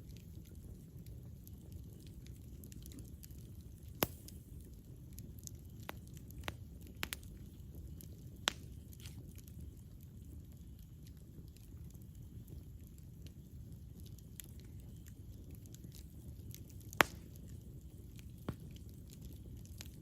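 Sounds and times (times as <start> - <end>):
fire crackling and popping: 0.0 - 20.0
flames rumbling: 0.0 - 20.0.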